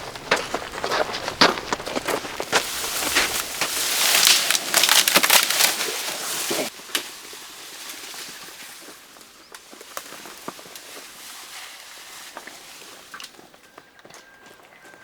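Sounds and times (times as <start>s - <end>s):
dry wood and vegetation crackling: 0.0s - 15.0s.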